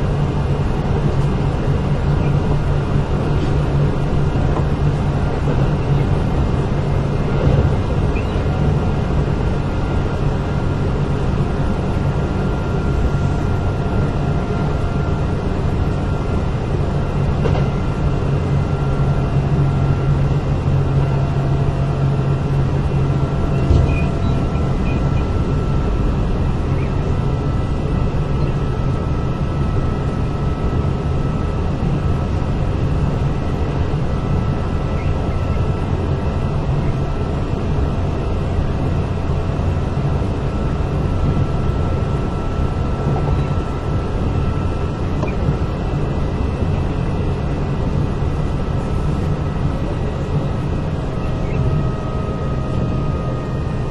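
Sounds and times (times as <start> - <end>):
train wheels and motors rumbling: 0.0 - 53.9.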